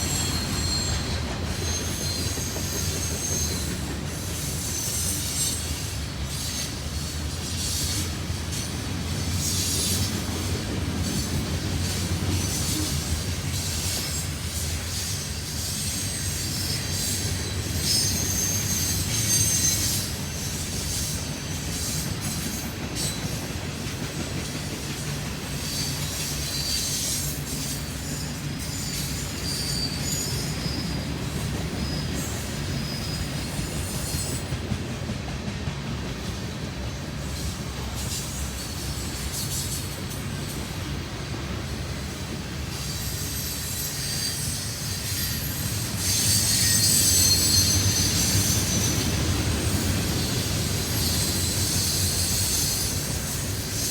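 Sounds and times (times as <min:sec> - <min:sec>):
railcars rumbling on track: 0:00.0 - 0:53.9
steel wheels squealing on rails: 0:00.0 - 0:53.9.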